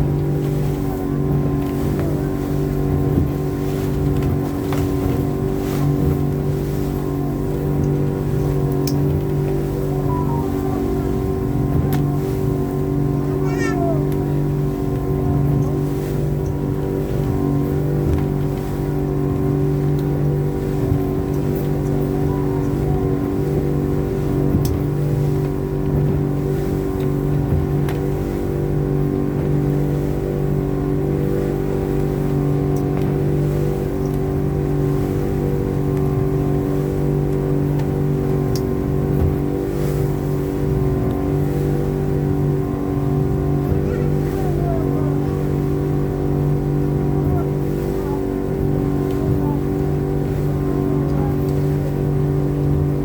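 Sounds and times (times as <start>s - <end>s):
outboard motor droning: 0.0s - 53.0s.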